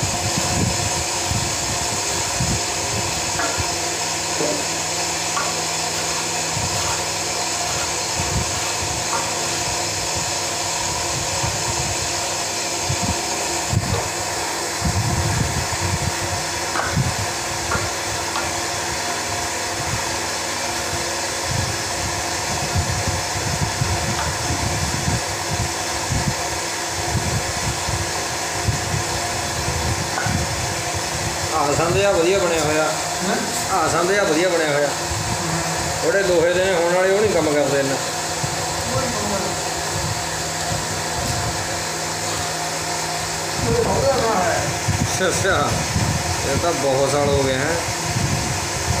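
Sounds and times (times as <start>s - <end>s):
whirring machine hum: 0.0s - 49.0s.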